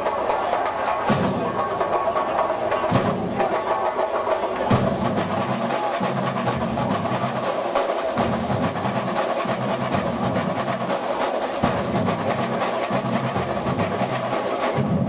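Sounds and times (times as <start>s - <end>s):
snare drums and small percussion: 0.0s - 15.0s.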